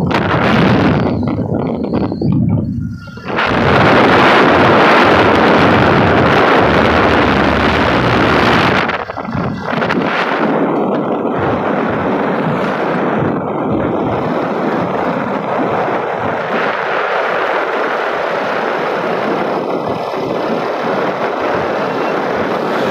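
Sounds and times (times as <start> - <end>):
vehicle driving on road: 0.0 - 22.9.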